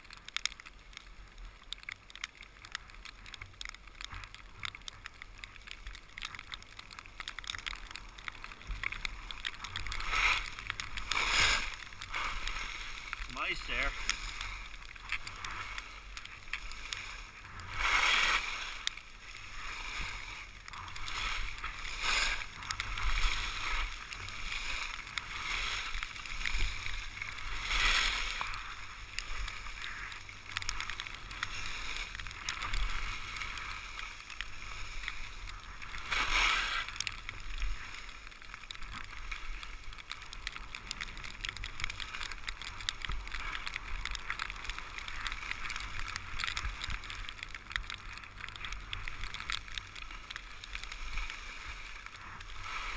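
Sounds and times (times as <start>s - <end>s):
skis scraping over packed snow: 0.0s - 52.9s.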